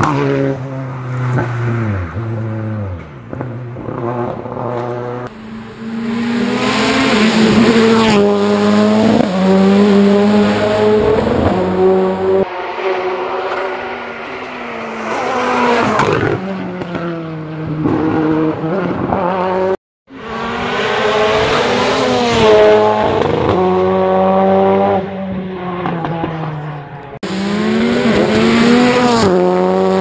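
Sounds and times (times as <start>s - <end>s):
rally car engine at full throttle: 0.0s - 30.0s.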